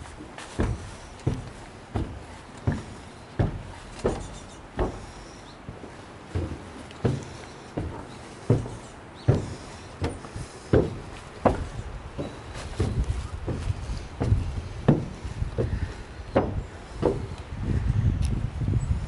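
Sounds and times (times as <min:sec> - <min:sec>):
footsteps on wooden stairs: 0:00.0 - 0:17.9.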